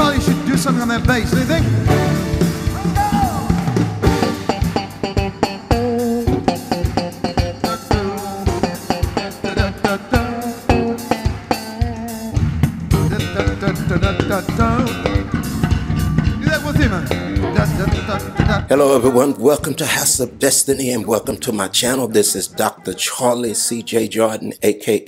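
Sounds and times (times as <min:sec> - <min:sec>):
drum kit beat: 0:00.0 - 0:20.3
band music: 0:00.0 - 0:24.0.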